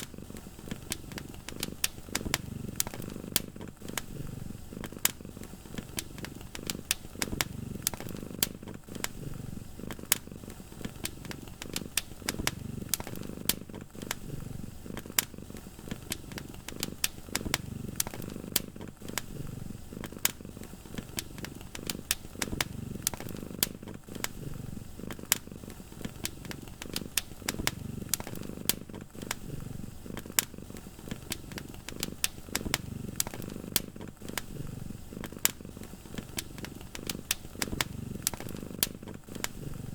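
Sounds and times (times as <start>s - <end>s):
cat purring: 0.0s - 39.9s
wood fire crackling and popping: 0.0s - 39.9s.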